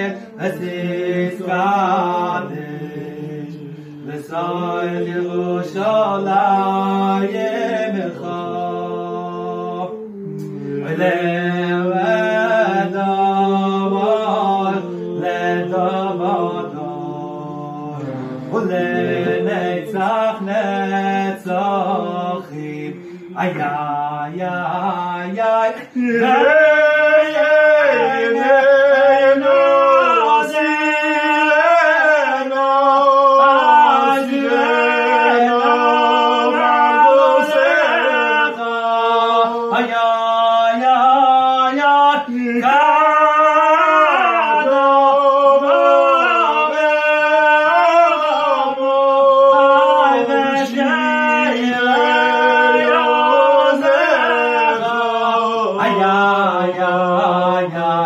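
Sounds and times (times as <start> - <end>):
man singing unaccompanied: 0.0 - 58.0.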